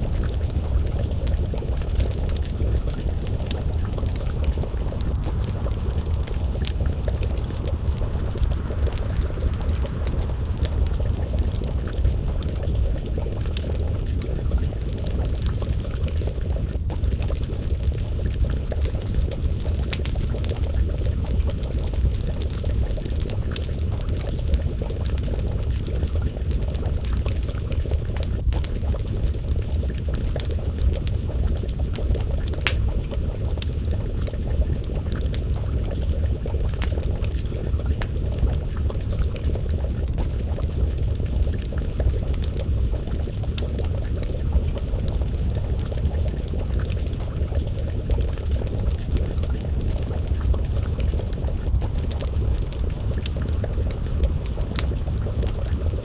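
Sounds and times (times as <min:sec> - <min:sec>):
deep rumble: 0:00.0 - 0:56.0
stew bubbling in a pot: 0:00.0 - 0:56.0
wood fire crackling: 0:00.0 - 0:56.0.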